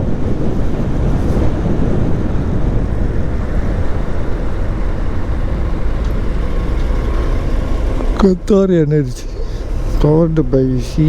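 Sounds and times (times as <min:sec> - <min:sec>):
motorcycle engine rumble: 0:00.0 - 0:11.0
wind rushing over microphone: 0:00.0 - 0:11.0.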